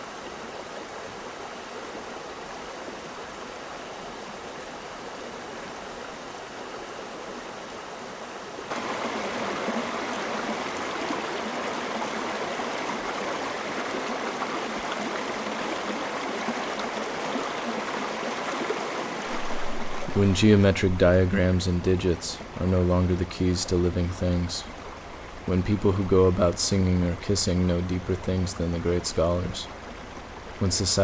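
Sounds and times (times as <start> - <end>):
stream water flowing: 0.0 - 31.0.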